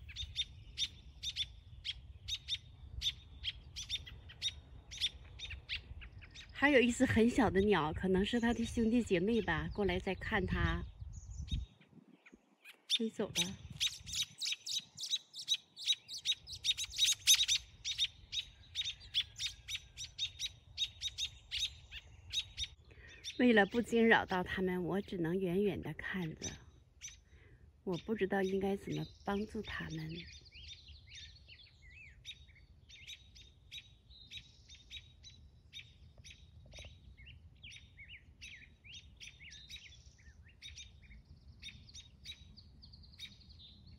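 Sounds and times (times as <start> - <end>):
songbirds chirping sharply: 0.0 - 43.9.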